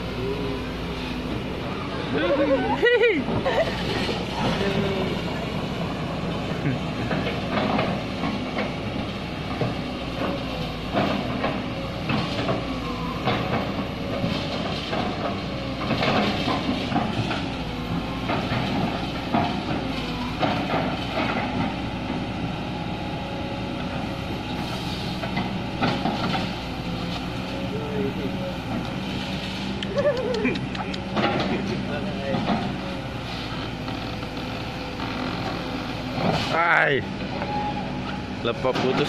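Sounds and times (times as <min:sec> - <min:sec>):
excavator diesel engine: 0:00.0 - 0:39.0.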